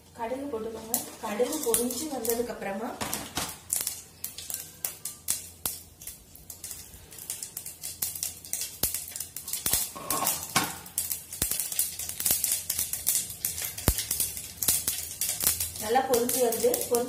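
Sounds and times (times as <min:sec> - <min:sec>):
mustard seeds popping in hot oil: 0:00.1 - 0:17.0.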